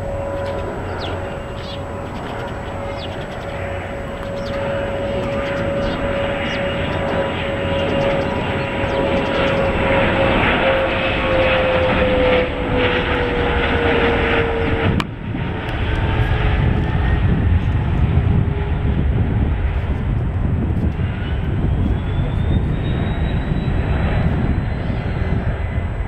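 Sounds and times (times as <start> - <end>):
deep jet rumble: 0.0 - 26.0
jet engine whine: 0.0 - 26.0.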